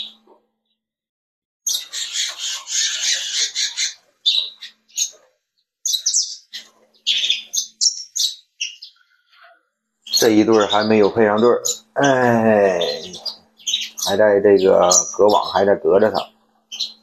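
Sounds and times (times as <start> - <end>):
canaries chirping and twittering: 0.0 - 0.3, 1.7 - 17.0.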